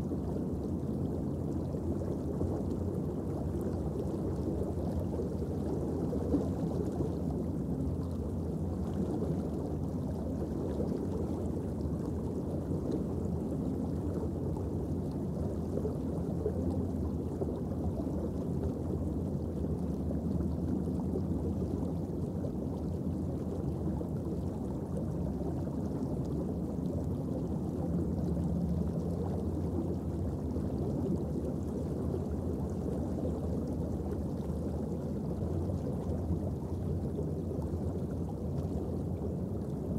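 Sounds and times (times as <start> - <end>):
faint steady hum: 0.0 - 39.9
low underwater rumble: 0.0 - 39.9.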